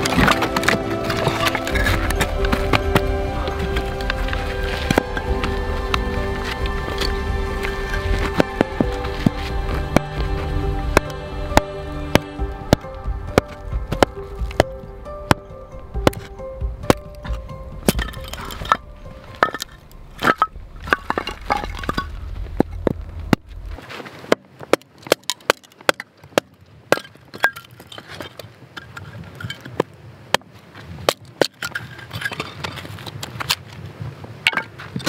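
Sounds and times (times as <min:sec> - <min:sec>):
wood cracking: 0:00.0 - 0:33.8.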